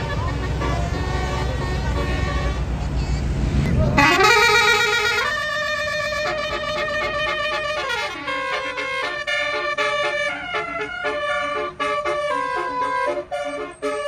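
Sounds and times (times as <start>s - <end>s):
bus horn playing a melody: 0.0s - 14.0s.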